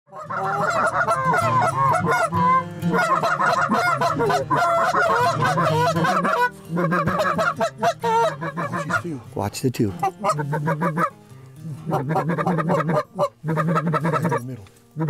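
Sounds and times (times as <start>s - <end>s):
goose call clucks and honks: 0.1s - 9.2s, 9.9s - 15.0s.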